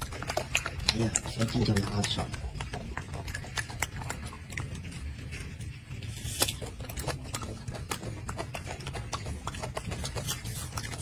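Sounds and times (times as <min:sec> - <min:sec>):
monkey chewing wet smacks: 0:00.0 - 0:11.0.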